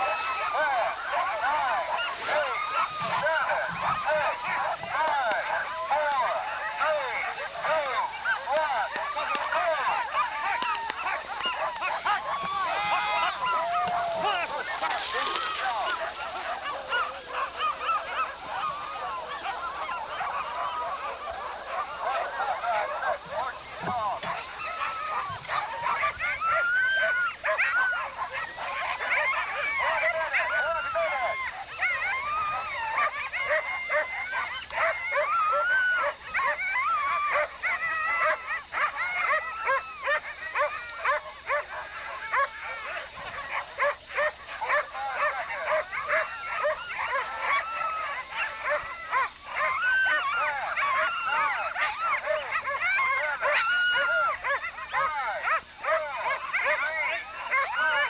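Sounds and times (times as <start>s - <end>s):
dogs barking and yelping: 0.0s - 58.0s.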